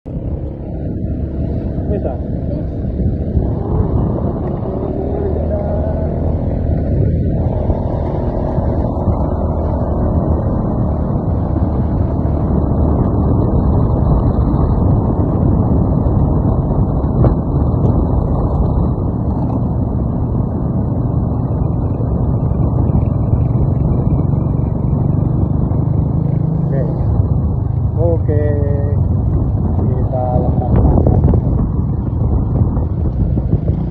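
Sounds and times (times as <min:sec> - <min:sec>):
vehicle engine and road noise: 0:00.0 - 0:33.9.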